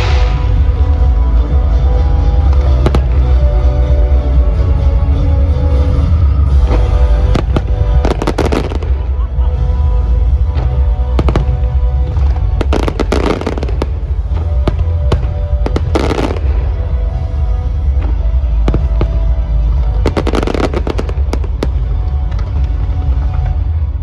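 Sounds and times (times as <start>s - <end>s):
fireworks bangs and crackle: 0.0s - 24.0s
low rumble: 0.0s - 24.0s
music: 0.0s - 24.0s.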